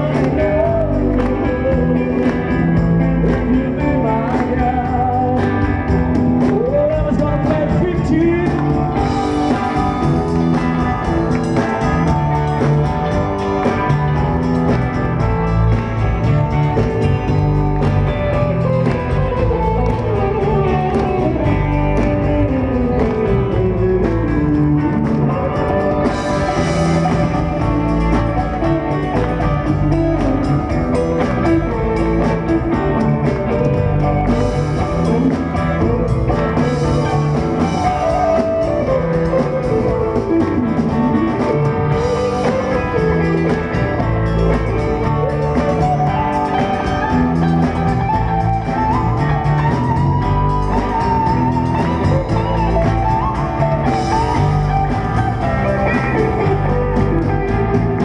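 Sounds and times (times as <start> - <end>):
drum kit: 0.0 - 58.0
live band with amplified guitars: 0.0 - 58.0.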